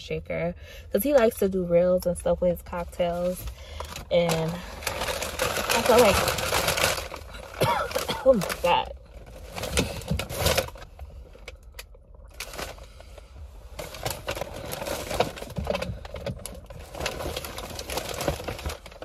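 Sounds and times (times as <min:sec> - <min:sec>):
low steady rumble: 0:00.0 - 0:19.0
shopping bags rustling: 0:02.9 - 0:11.5, 0:12.3 - 0:19.0.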